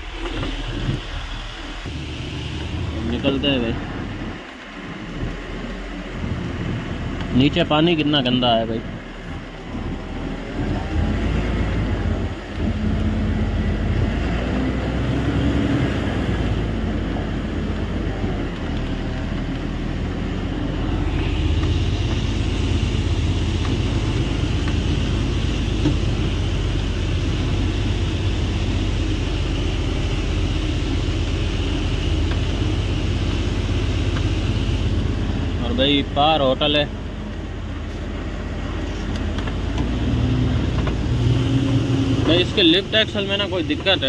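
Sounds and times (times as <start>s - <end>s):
steady high whine: 0.0s - 14.1s, 16.0s - 44.0s
truck diesel engine running: 0.0s - 44.0s.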